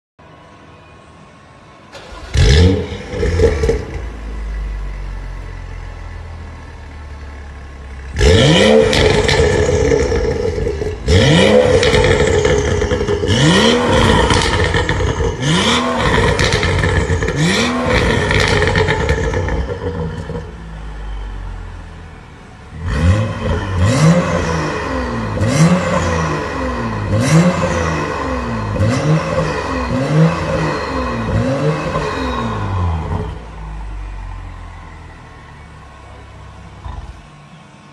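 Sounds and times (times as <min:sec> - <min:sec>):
car engine revving and idling: 0:01.9 - 0:37.9.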